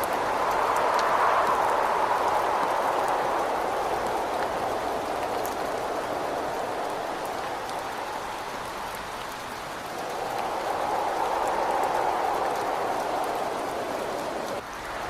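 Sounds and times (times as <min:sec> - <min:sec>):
gusting wind against a window: 0:00.0 - 0:15.0
raindrops ticking: 0:00.0 - 0:15.0
steady rain: 0:00.0 - 0:15.0.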